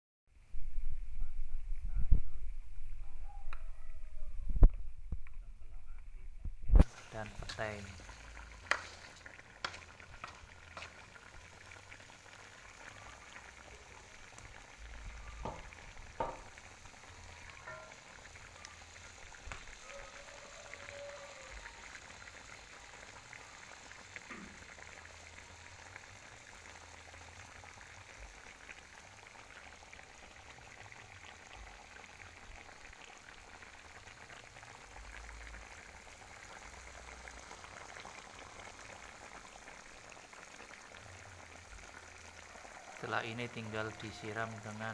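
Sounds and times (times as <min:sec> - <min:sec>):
meat sizzling in a wok: 0:06.7 - 0:44.9.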